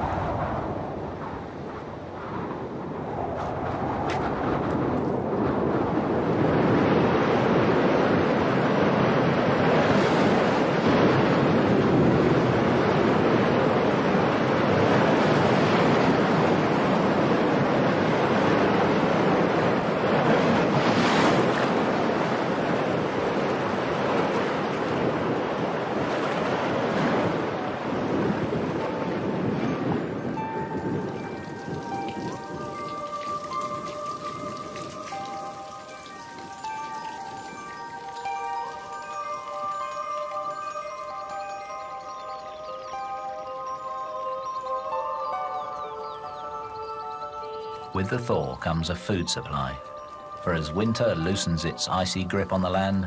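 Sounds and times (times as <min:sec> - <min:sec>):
strong wind blowing: 0:00.0 - 0:53.0.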